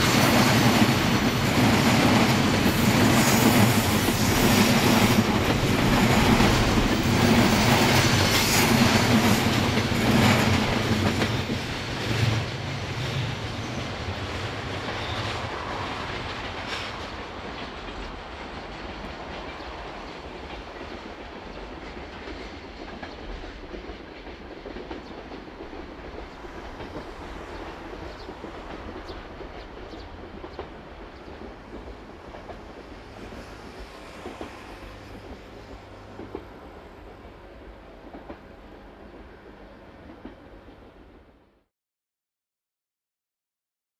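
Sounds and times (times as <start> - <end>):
distant train rumble: 0.0 - 41.7.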